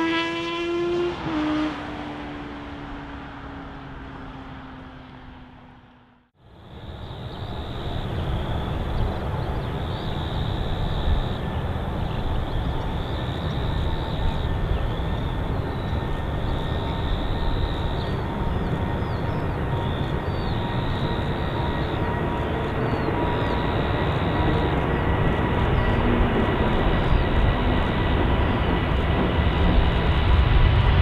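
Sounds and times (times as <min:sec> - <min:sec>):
jet engines rumbling: 0:01.0 - 0:31.0.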